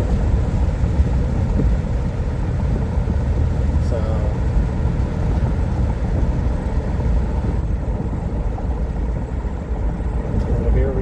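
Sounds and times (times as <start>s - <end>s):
tyres rumbling on road inside car: 0.0s - 11.0s.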